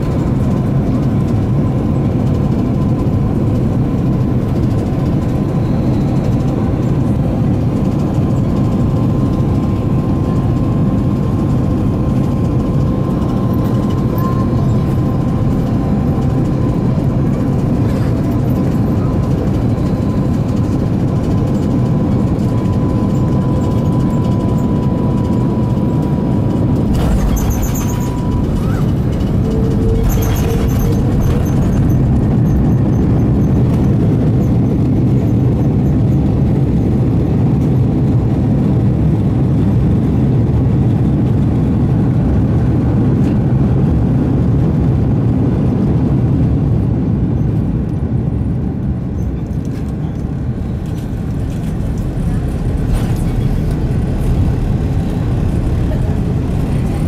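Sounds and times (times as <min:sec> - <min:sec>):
jet engines in reverse thrust: 0:00.0 - 0:57.0.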